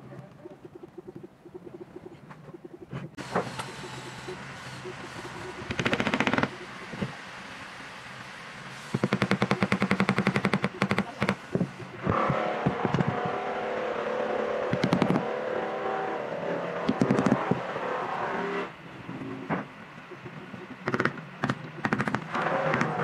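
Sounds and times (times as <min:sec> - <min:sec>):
motor drone: 0:03.2 - 0:23.0.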